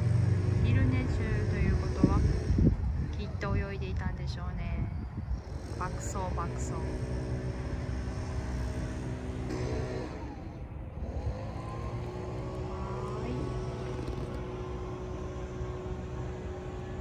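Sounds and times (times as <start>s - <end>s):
low traffic rumble: 0.0s - 17.0s
vehicle passing by: 0.0s - 17.0s.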